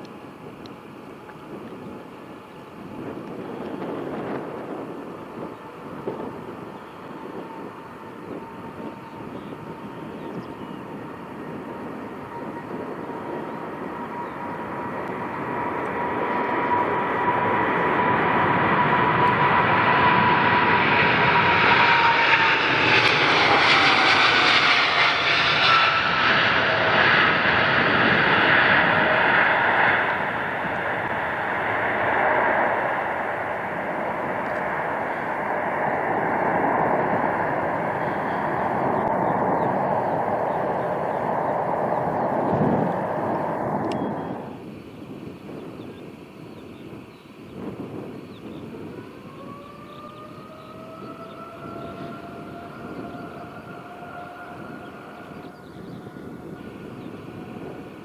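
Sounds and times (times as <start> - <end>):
jet airliner engines passing: 0.0 - 58.0.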